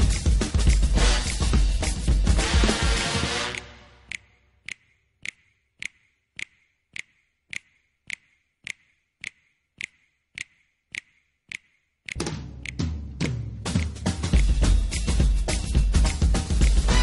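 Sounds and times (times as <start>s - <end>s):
clock ticking: 0.0s - 16.8s.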